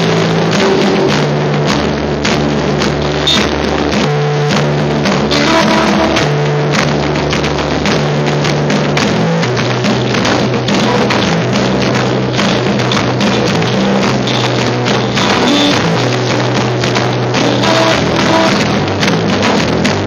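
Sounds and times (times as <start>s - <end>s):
drum kit with cymbals: 0.0s - 20.0s
held low notes: 0.0s - 20.0s.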